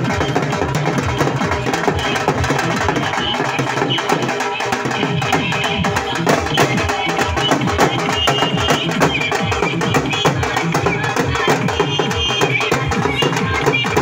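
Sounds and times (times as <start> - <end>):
dhol drums beaten with sticks: 0.0 - 14.0.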